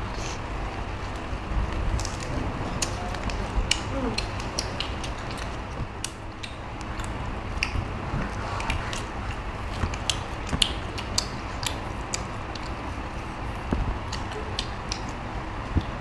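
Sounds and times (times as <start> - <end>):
low background rumble: 0.0 - 16.0
chewing clicks and smacks: 1.9 - 16.0.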